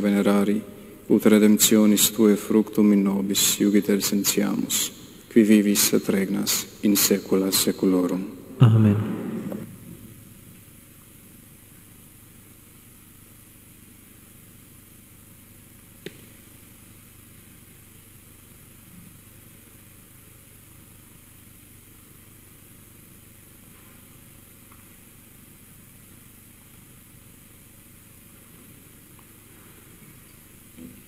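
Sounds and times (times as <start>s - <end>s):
low hum and hiss: 0.0s - 31.0s.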